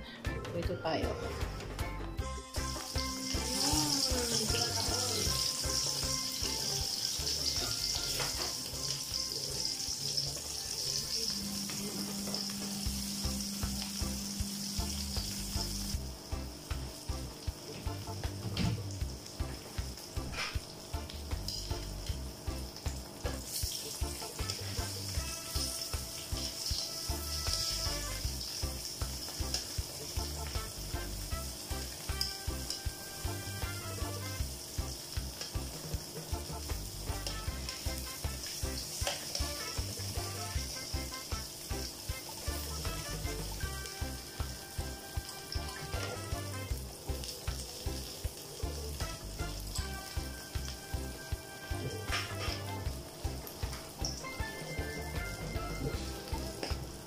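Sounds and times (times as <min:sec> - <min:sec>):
music with steady bass beat: 0:00.0 - 0:08.5, 0:11.4 - 0:57.0
fish frying in hot oil: 0:02.5 - 0:57.0.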